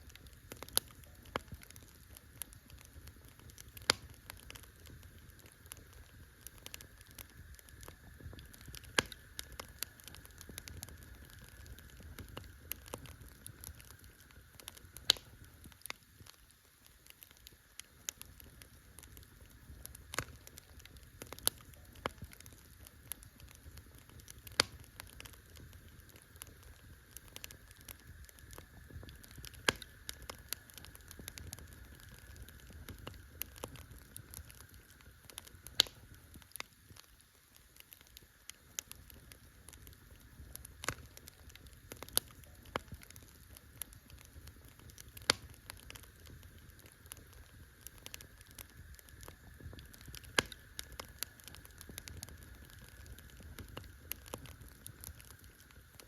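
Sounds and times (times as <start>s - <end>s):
campfire crackling: 0.0s - 56.0s
low rumble of burning fire: 0.0s - 56.0s
sharp pops of fire: 0.0s - 56.0s.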